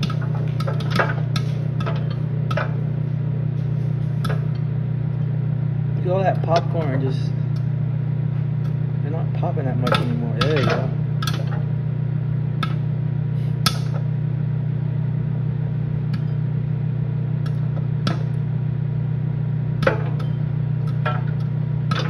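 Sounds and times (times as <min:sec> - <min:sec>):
microwave oven humming: 0:00.0 - 0:22.0
popcorn popping: 0:00.0 - 0:22.0.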